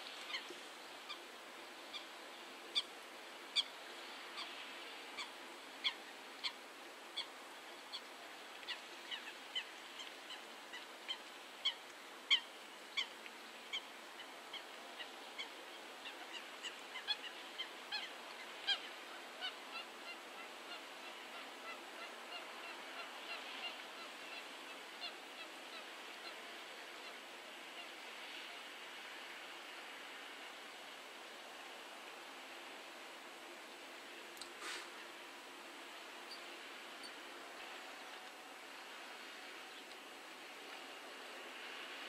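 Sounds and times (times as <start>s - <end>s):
faint steady background noise: 0.0s - 42.0s.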